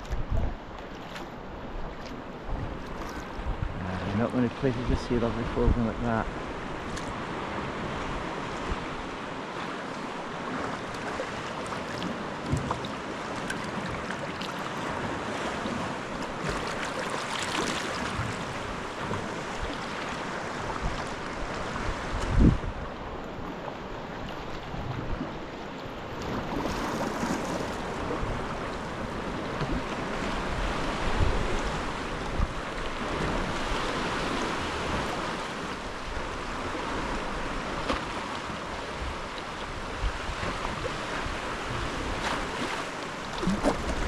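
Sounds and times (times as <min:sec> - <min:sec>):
water sloshing around kayak: 0:00.0 - 0:05.6, 0:06.2 - 0:44.0
wind rumbling on microphone: 0:00.0 - 0:44.0.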